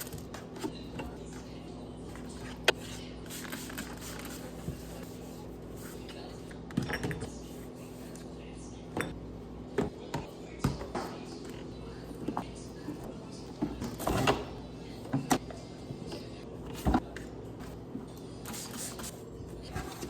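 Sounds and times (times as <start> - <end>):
refrigerator hum: 0.0 - 20.0.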